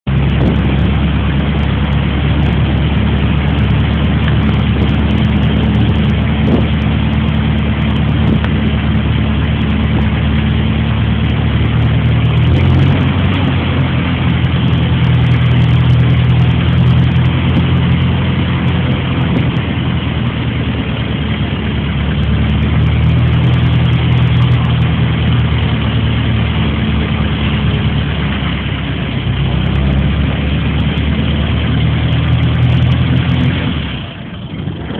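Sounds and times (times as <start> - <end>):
vehicle engine running: 0.0 - 34.9
steady rushing noise: 0.1 - 34.9.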